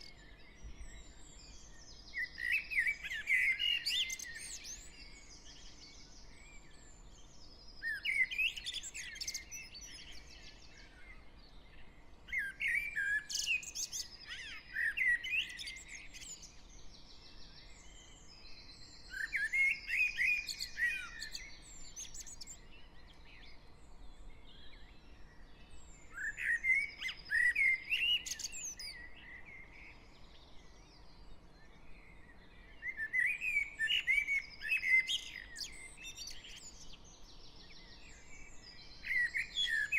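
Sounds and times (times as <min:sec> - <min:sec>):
bird singing trilling song: 0:00.0 - 0:39.9
fainter birds singing: 0:00.0 - 0:39.9.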